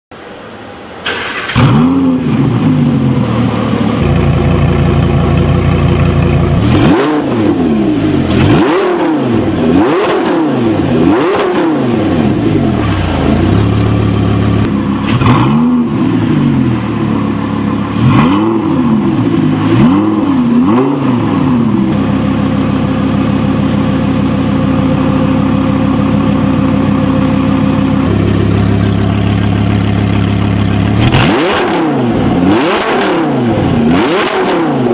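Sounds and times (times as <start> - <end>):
car engine starting and idling: 0.2 - 34.9
engine revving: 1.1 - 23.5, 24.7 - 34.9.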